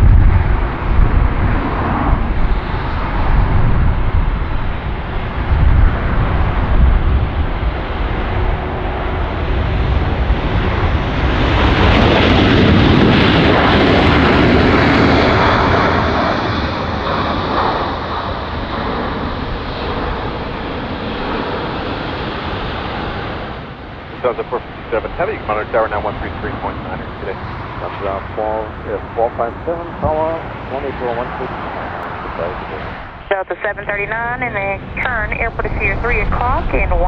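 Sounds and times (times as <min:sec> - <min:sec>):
jet airliner engines roaring: 0:00.0 - 0:37.0.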